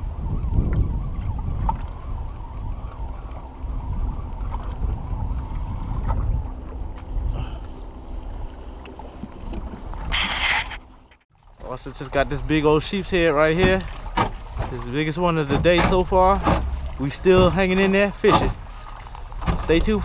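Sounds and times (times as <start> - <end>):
wind rumbling on microphone: 0.0 - 10.8, 11.8 - 20.0.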